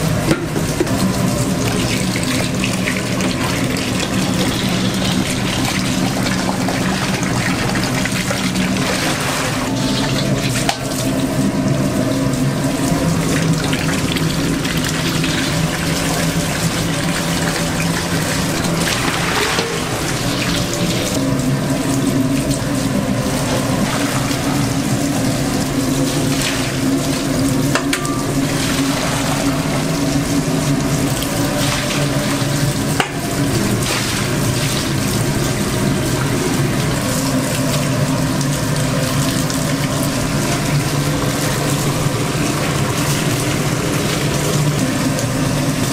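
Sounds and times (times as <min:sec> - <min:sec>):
steady low hum: 0:00.0 - 0:45.9
tap water running into sink: 0:00.0 - 0:45.9.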